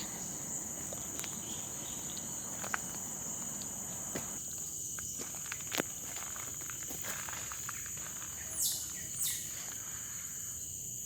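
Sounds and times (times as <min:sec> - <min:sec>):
footsteps on dirt path: 0:00.0 - 0:10.0
insects droning chorus: 0:00.0 - 0:11.0.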